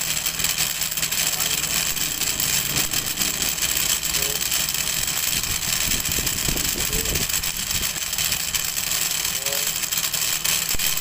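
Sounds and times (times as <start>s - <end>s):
coil winding machine running: 0.0s - 11.0s.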